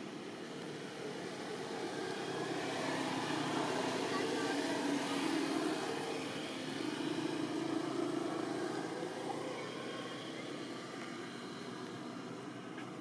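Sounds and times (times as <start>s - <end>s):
distant motor traffic: 0.0s - 13.0s.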